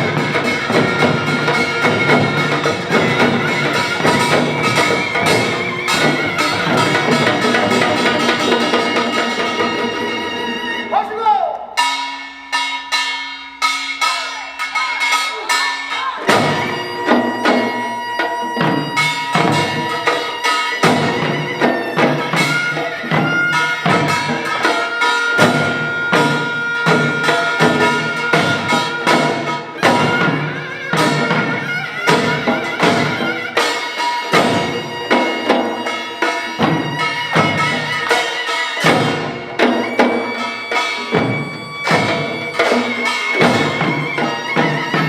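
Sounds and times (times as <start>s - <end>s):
drums in fast rhythm: 0.0s - 45.0s.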